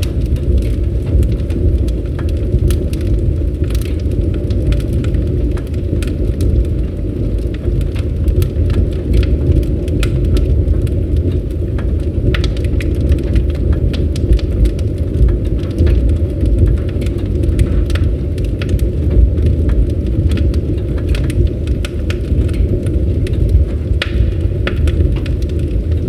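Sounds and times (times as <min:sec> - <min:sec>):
campfire flames rumbling: 0:00.0 - 0:26.0
wood crackling and popping: 0:00.0 - 0:26.0.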